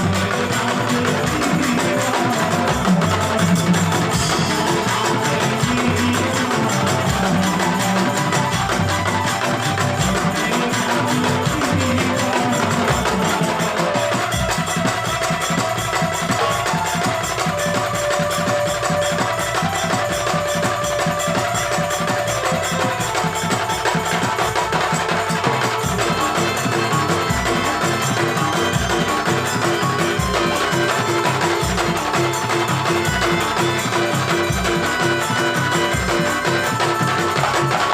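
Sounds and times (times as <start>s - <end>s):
fast percussion beat: 0.0s - 37.9s
held melodic notes: 0.0s - 37.9s.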